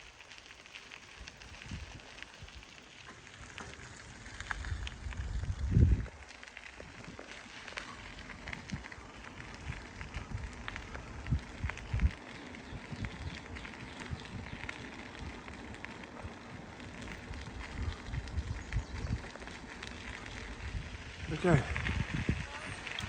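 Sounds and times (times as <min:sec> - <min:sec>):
bicycle tyres crackling on grit: 0:00.0 - 0:23.0.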